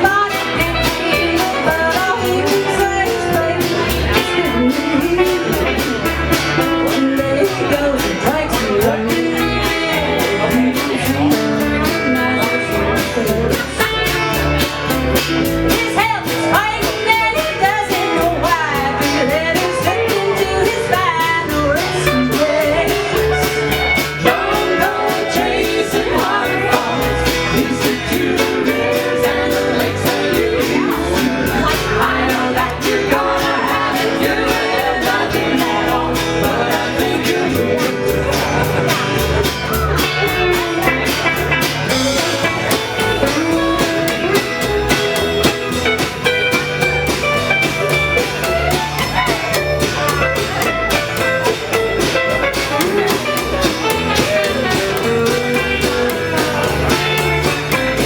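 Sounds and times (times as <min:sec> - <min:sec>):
person singing: 0:00.0 - 0:14.2, 0:15.7 - 0:58.0
drum beat: 0:00.0 - 0:58.0
guitar: 0:00.0 - 0:58.0.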